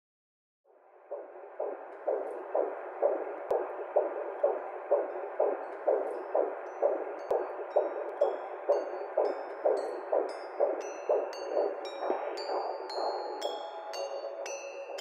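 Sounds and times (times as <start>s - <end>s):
whooshing heartbeat: 1.1s - 13.5s.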